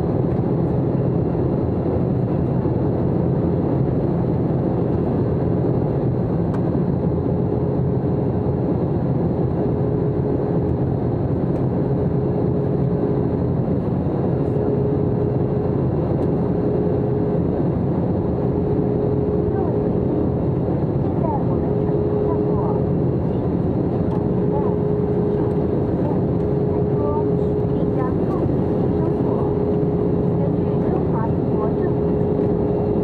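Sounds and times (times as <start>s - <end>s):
aircraft cabin engine drone: 0.0s - 33.0s
constant hum: 0.0s - 33.0s.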